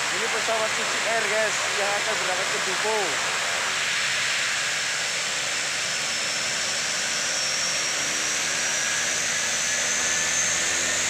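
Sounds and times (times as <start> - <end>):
high turbine whine: 0.0 - 11.0
turboprop engine running: 0.0 - 11.0.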